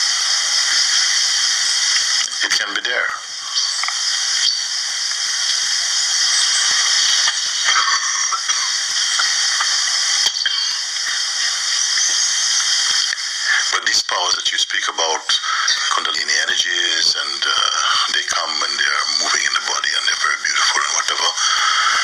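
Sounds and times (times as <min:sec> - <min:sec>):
recording hiss: 0:00.0 - 0:22.0.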